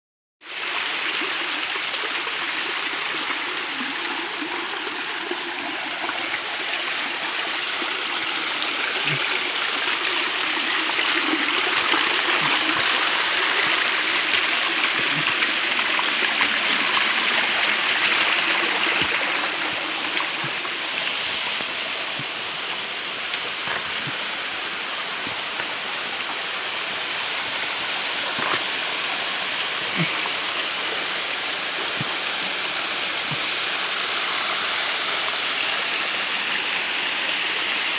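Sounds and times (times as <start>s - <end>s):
stream rushing over rocks: 0.5s - 37.9s.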